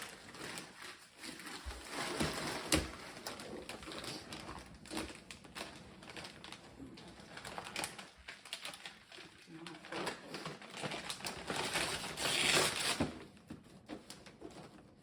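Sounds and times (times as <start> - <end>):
wrapping paper rustling and tearing: 0.0 - 15.0.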